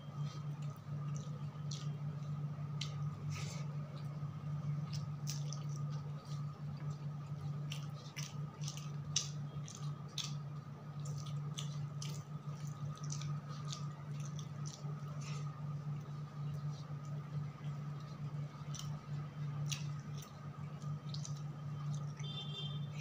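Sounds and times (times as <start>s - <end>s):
steady low hum: 0.0s - 23.0s
fingers squishing rice on plate: 0.2s - 22.2s.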